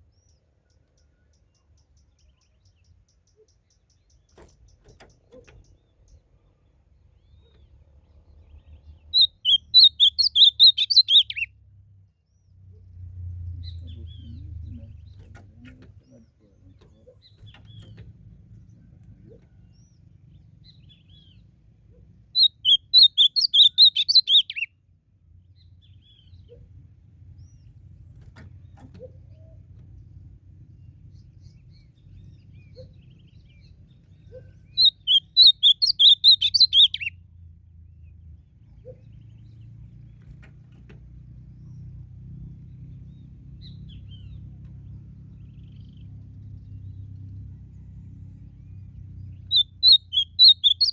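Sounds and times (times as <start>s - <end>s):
bird singing warbled phrases: 0.0s - 40.5s, 41.3s - 50.9s.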